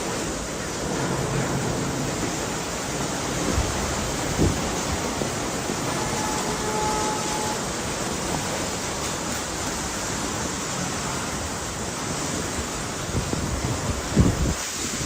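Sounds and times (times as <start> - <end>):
heavy rain: 0.0 - 15.0
strong wind: 0.0 - 15.0.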